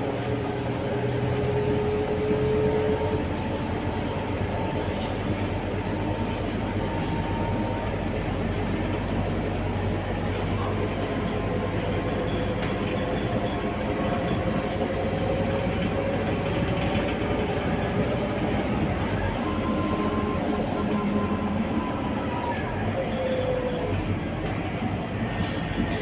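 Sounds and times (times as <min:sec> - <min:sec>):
bus diesel engine drone: 0:00.0 - 0:26.0
road noise: 0:00.0 - 0:26.0.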